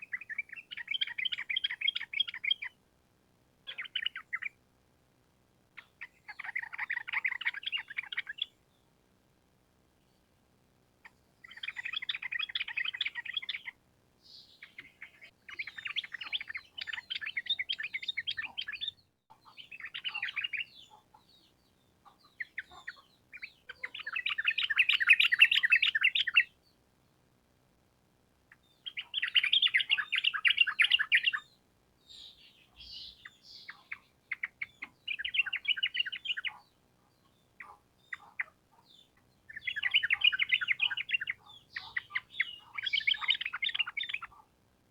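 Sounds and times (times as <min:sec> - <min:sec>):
bird chattering song: 0:00.0 - 0:02.8, 0:03.7 - 0:04.6, 0:05.8 - 0:08.6, 0:11.0 - 0:26.7, 0:28.5 - 0:44.5.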